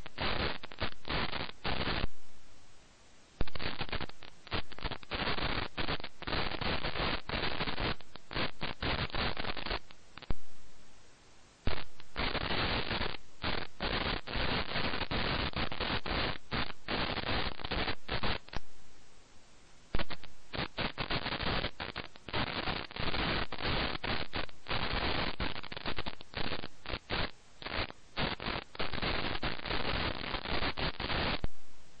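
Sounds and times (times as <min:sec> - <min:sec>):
crackling static hiss: 0:00.0 - 0:32.0.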